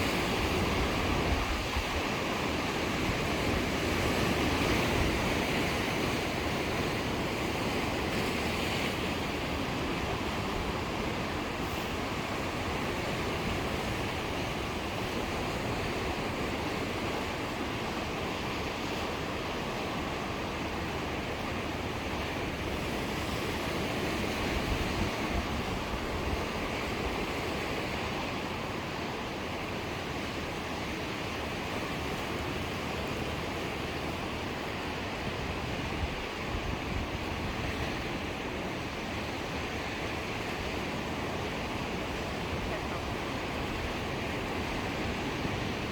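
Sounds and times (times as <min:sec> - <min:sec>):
sea surf washing ashore: 0:00.0 - 0:45.9.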